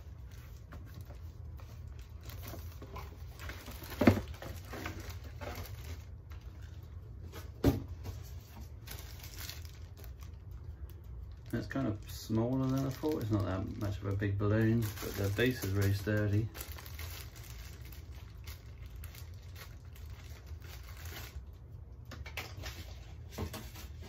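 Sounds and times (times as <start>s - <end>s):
packaging rustling and crinkling: 0.0s - 24.0s.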